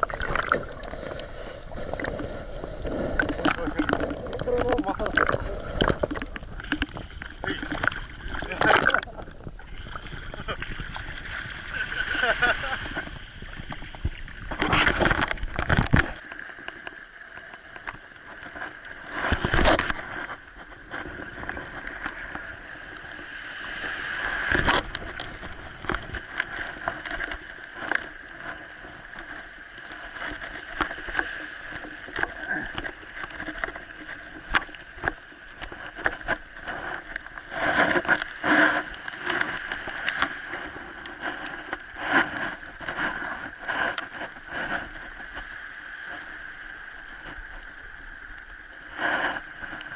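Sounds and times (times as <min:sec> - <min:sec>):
water sloshing: 0:00.0 - 0:47.6.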